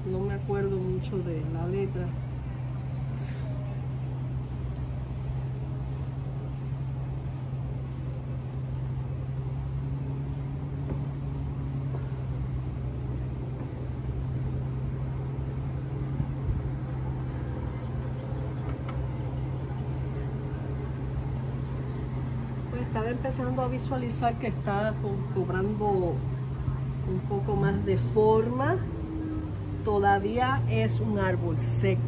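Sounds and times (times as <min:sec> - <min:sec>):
low motor hum: 0:00.0 - 0:32.0.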